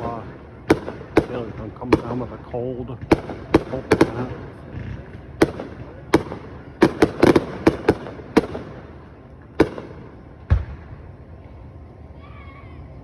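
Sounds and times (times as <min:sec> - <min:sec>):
fireworks bangs: 0:00.0 - 0:11.4.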